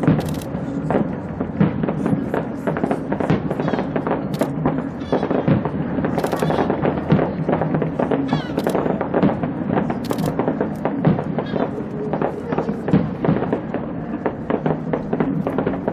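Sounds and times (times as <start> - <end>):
fireworks bangs and crackles: 0.0 - 15.9.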